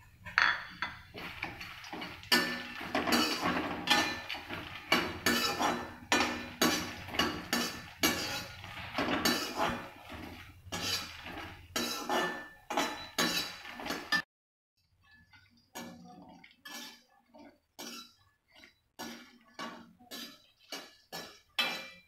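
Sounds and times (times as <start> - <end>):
metal spoon scraping a metal pan: 0.2 - 14.2, 15.0 - 22.0.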